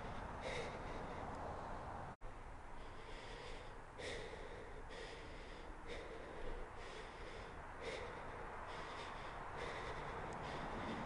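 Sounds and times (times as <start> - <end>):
person breathing heavily: 0.0 - 2.0, 2.6 - 11.0.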